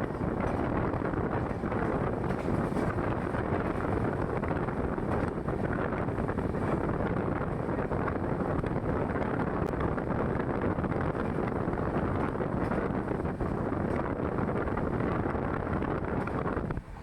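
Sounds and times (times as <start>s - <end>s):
train coaches rumbling: 0.0s - 17.0s
wind buffeting microphone: 0.0s - 17.0s.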